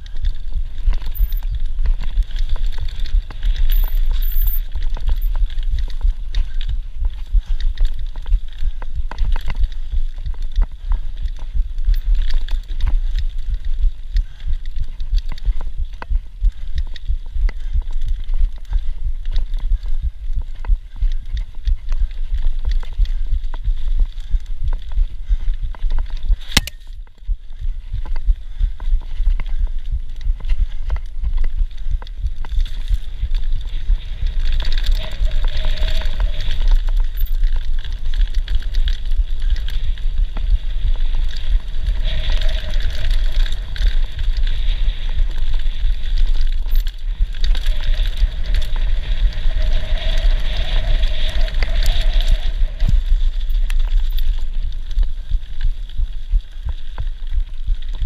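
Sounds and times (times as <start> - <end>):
mountain bike rattling over dirt: 0.0 - 58.0
wind rumble on microphone: 0.0 - 58.0.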